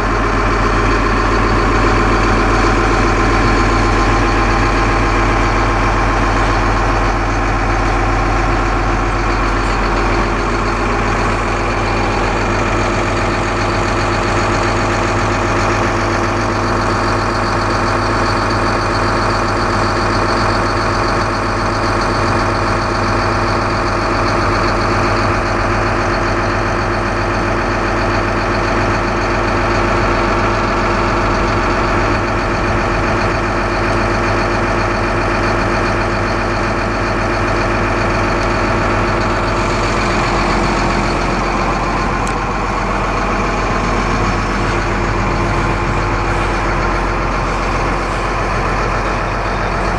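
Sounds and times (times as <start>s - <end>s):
excavator diesel idling: 0.0s - 49.9s.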